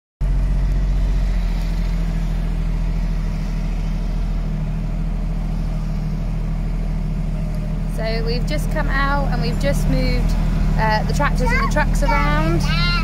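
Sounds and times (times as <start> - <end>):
tractor engine drone: 0.2 - 13.0.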